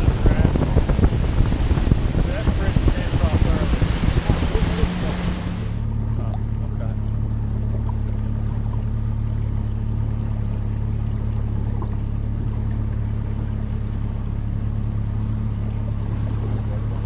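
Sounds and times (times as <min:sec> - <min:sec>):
outboard motor running: 0:00.0 - 0:17.0
wind and water rushing: 0:00.0 - 0:17.0.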